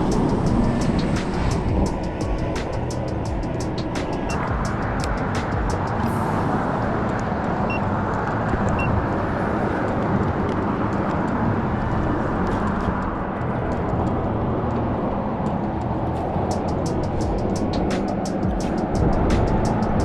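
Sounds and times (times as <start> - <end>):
rushing noise: 0.0 - 20.0.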